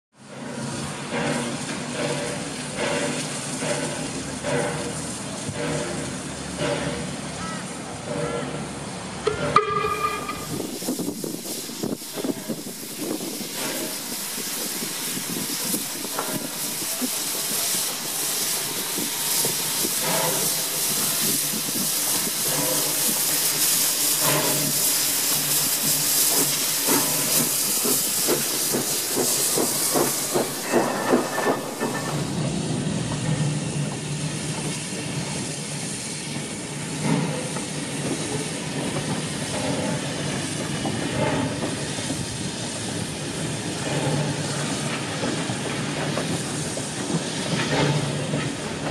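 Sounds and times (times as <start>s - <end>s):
steam locomotive hissing and clanking: 0.2s - 48.9s.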